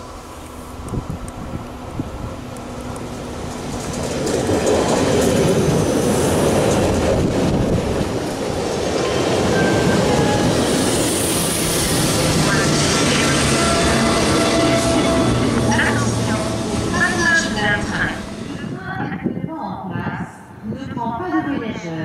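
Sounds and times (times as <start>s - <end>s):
electric train passing: 0.0s - 19.4s.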